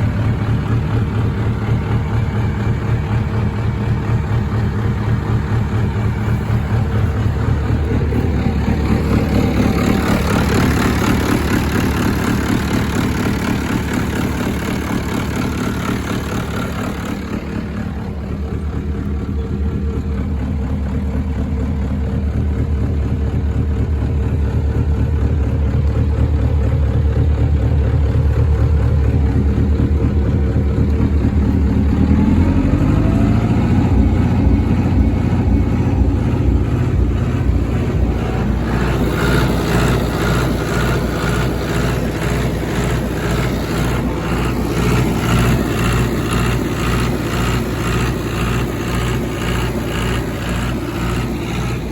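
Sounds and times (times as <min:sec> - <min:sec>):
tractor diesel engine revving: 0:00.0 - 0:51.9.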